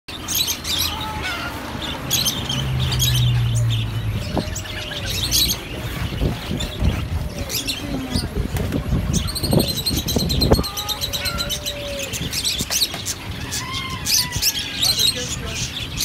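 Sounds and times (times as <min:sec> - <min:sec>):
small birds chirping and twittering: 0:00.1 - 0:16.0.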